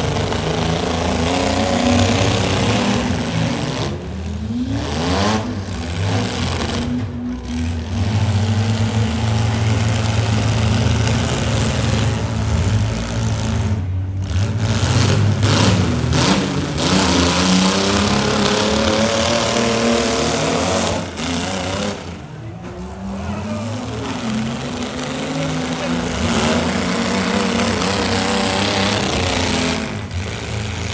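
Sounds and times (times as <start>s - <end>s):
car engines revving hard: 0.0s - 30.9s.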